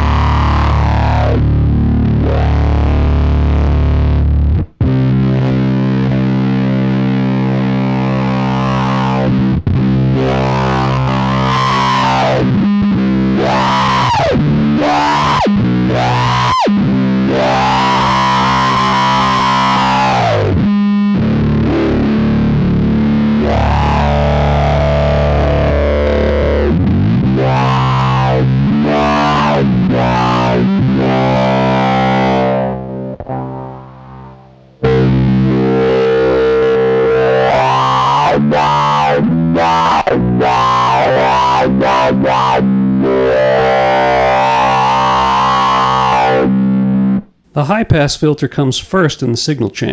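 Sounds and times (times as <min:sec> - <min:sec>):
fuzzed electric guitar with filter sweeps: 0:00.0 - 0:47.5.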